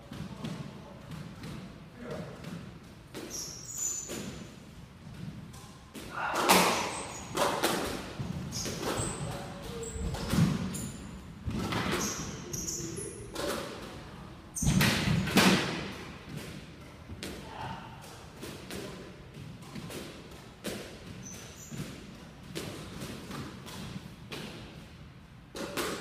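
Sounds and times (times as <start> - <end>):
squash ball hits: 4.0 - 24.8, 25.5 - 26.0.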